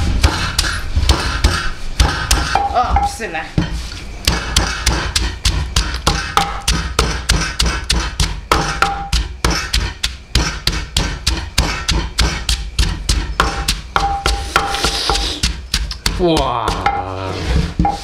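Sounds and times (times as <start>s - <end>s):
knife chopping on cutting board: 0.2s - 2.7s, 4.2s - 18.0s.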